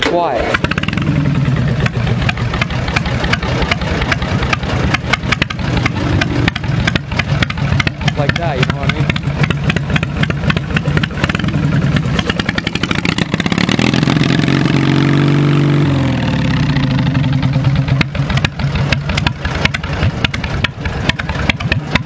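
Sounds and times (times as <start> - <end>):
tractor engine revving and idling: 0.0 - 22.0.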